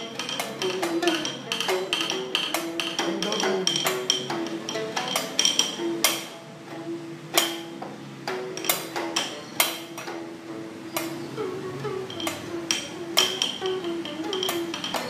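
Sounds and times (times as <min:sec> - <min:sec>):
sticks knocking on bamboo tube: 0:00.0 - 0:06.4, 0:07.4 - 0:10.2, 0:12.1 - 0:15.0.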